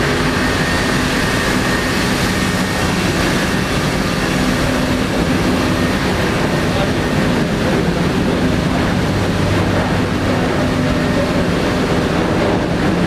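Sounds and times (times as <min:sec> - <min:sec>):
engine room machinery roar: 0:00.0 - 0:13.0
low machinery hum: 0:00.0 - 0:13.0.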